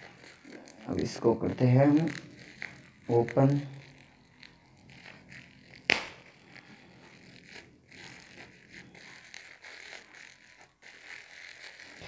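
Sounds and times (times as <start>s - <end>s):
bubble wrap crinkling: 0.0s - 12.0s
bubble wrap snap: 0.0s - 12.0s.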